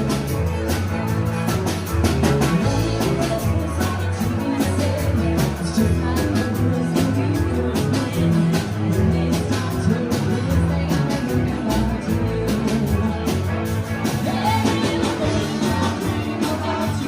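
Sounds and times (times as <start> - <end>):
rock and roll music: 0.0 - 17.0.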